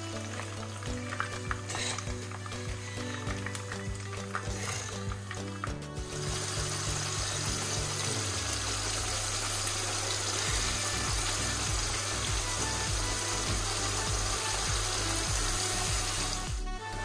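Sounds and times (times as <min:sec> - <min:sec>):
sauce sizzling in a frying pan: 0:00.0 - 0:16.6
background music: 0:00.0 - 0:17.0.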